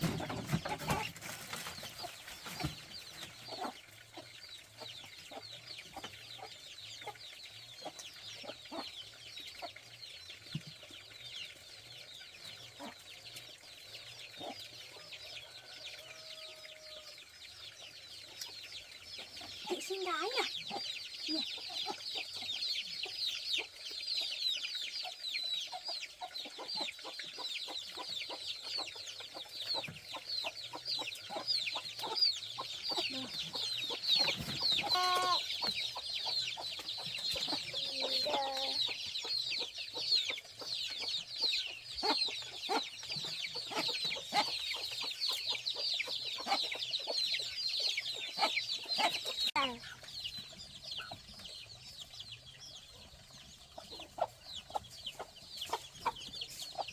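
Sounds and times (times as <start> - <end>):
chickens peeping and clucking: 0.0 - 56.9.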